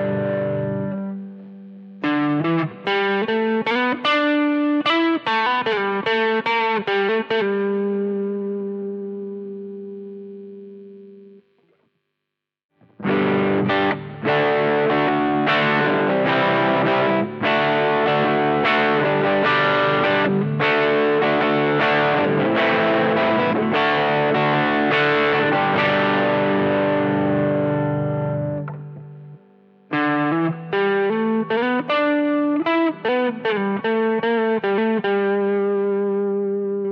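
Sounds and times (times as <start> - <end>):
distorted guitar riff: 0.0 - 11.8, 12.8 - 36.9
overdriven electric guitar chords: 0.0 - 11.8, 12.8 - 36.9.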